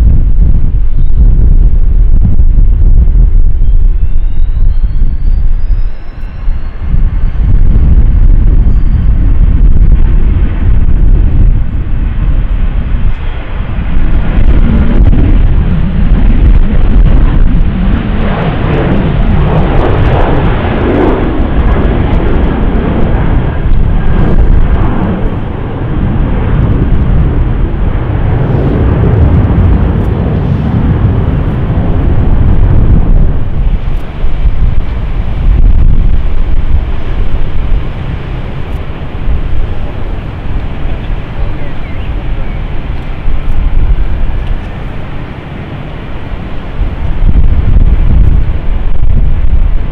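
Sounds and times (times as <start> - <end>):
jet engines roaring at takeoff: 0.0 - 49.9.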